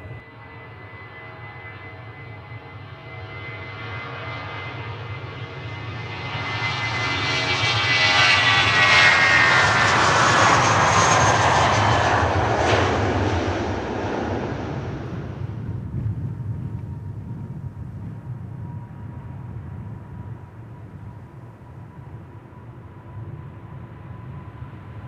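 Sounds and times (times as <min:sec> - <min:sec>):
jet airliner passing overhead: 0:00.0 - 0:25.0.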